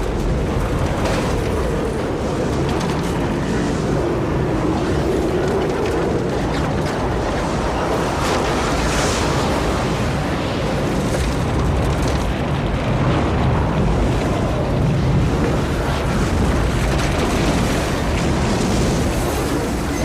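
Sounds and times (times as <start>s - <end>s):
deep continuous rumble: 0.0s - 20.0s
rushing wind: 0.0s - 20.0s.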